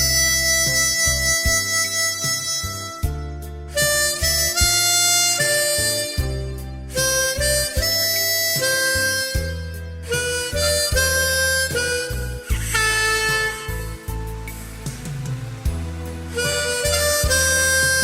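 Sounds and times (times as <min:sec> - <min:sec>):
harmonica playing slow melody: 0:00.0 - 0:14.9, 0:15.6 - 0:18.0
backing music with low bass line: 0:00.0 - 0:18.0.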